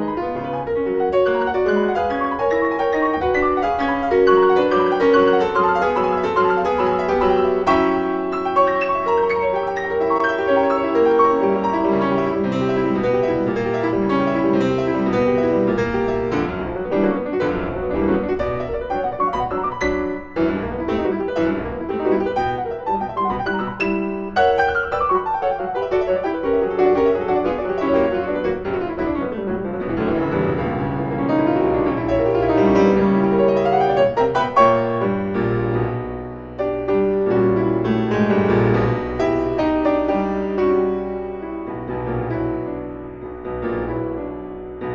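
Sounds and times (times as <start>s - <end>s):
classical piano music: 0.0s - 44.9s.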